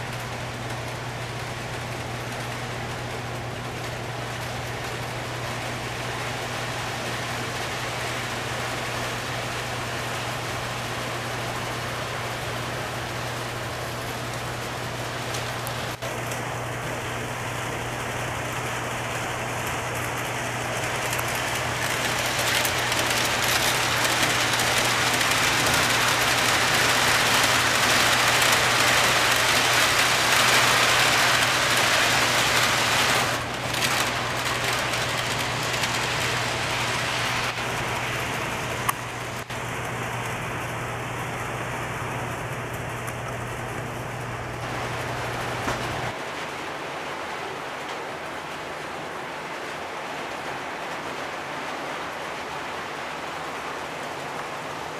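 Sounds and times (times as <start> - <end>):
model train rolling on track: 0.0 - 54.6.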